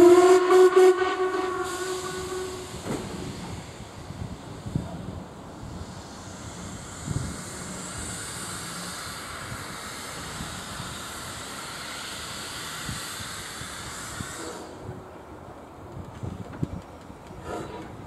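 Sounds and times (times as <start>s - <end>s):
steam hissing from locomotive: 0.0s - 15.3s.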